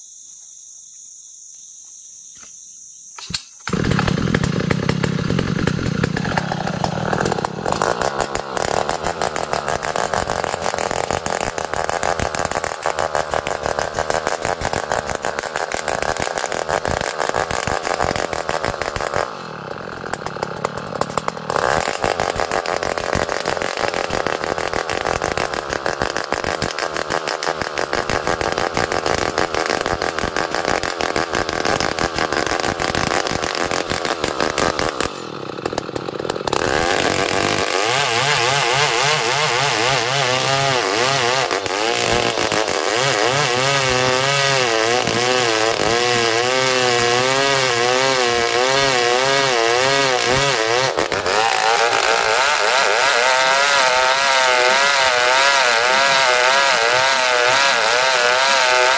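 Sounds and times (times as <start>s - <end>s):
chainsaw cutting wood: 3.2s - 58.9s.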